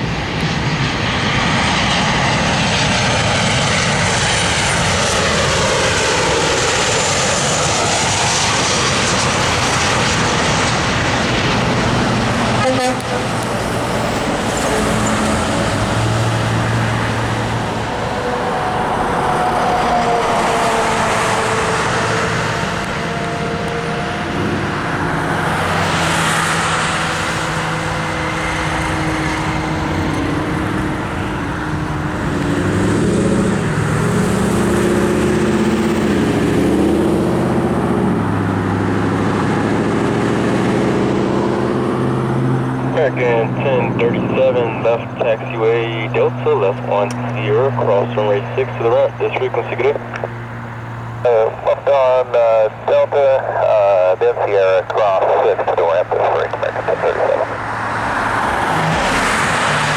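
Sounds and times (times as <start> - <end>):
vehicle engines passing: 0.0 - 59.9.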